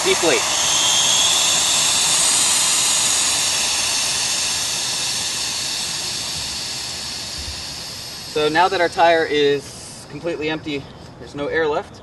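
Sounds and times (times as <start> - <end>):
air hissing from tire valve: 0.0 - 10.4.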